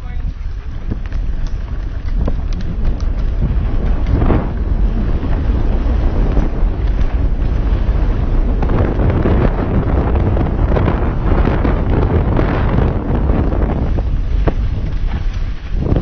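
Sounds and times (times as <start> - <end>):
bike rolling over dirt trail: 0.0 - 16.0
wind buffeting microphone: 0.0 - 16.0.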